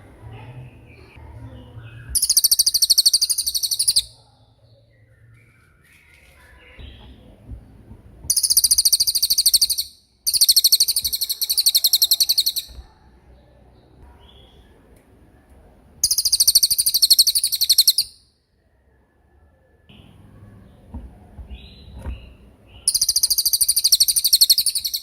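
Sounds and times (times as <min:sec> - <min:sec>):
faint soft bird chirps: 0:00.3 - 0:07.5, 0:08.3 - 0:14.8, 0:16.0 - 0:18.3, 0:19.3 - 0:25.0.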